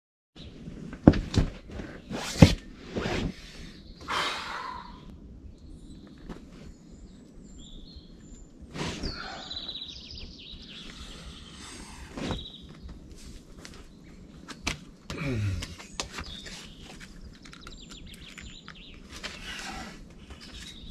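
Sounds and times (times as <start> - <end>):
songbird singing: 3.4 - 20.9.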